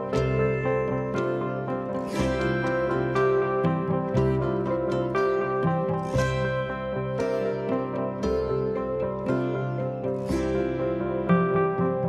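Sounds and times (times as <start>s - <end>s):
plucked string notes: 0.0s - 12.0s.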